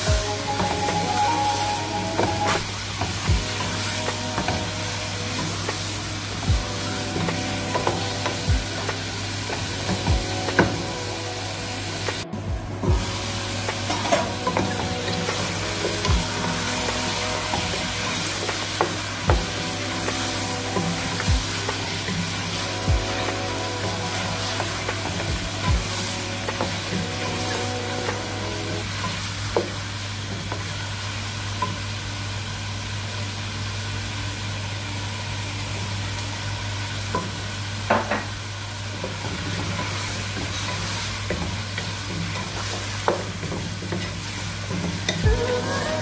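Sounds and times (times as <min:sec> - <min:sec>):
chicken and onion sizzling: 0:00.0 - 0:46.0.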